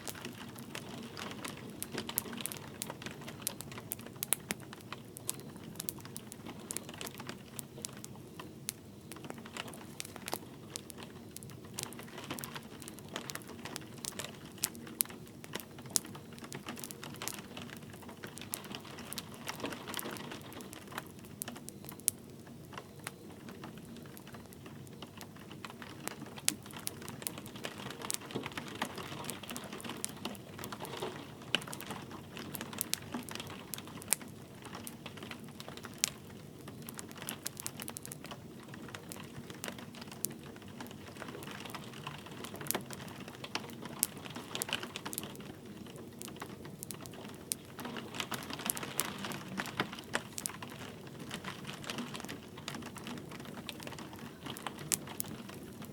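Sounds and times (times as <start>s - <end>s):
light rain hissing: 0.0s - 55.9s
wood fire crackling and popping: 0.0s - 55.9s.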